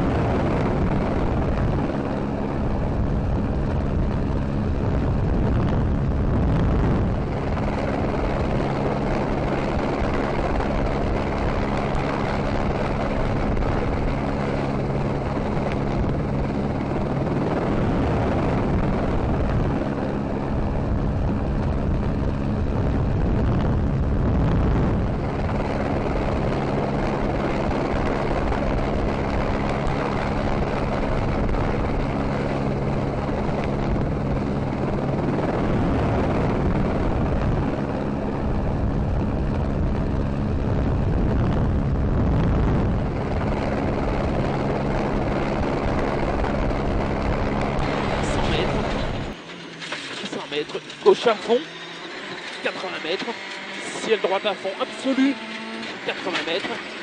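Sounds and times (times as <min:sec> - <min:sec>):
engine drone: 0:00.0 - 0:57.0.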